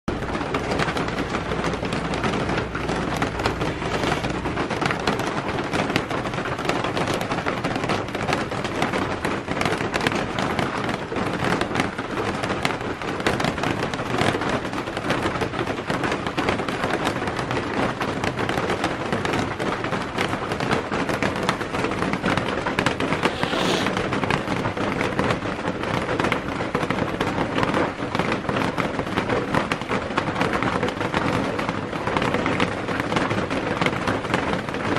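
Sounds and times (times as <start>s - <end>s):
rain on a plastic roof: 0.0s - 34.9s.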